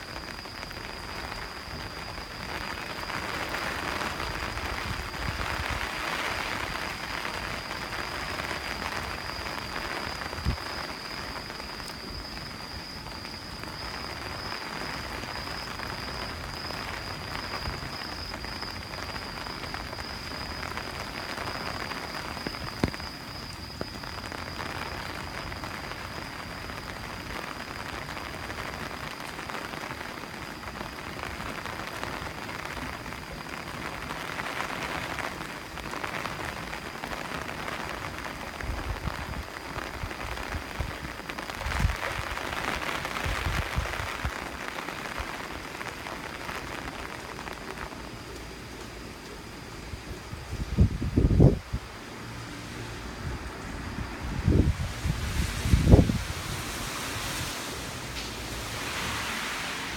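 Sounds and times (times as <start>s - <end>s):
heavy rain hissing: 0.0s - 59.9s
thin high whine: 0.0s - 59.9s.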